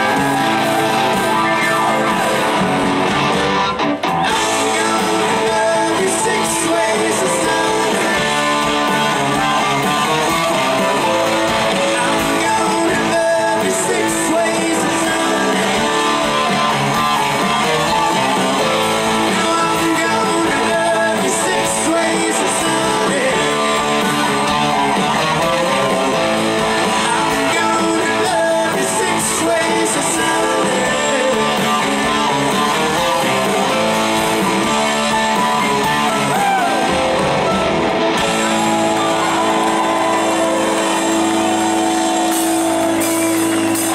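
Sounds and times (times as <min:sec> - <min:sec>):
bass guitar: 0:00.0 - 0:43.9
drums: 0:00.0 - 0:43.9
electric guitars: 0:00.0 - 0:43.9
keyboard: 0:00.0 - 0:43.9.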